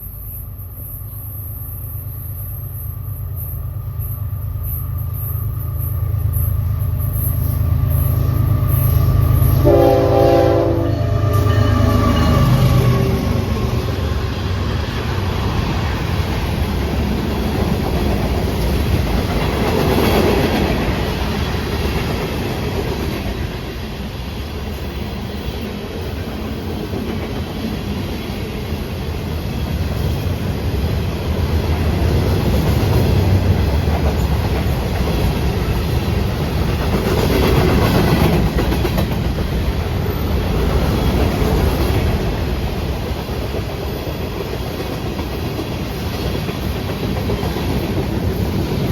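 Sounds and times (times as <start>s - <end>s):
freight train rolling past: 0.0s - 48.9s.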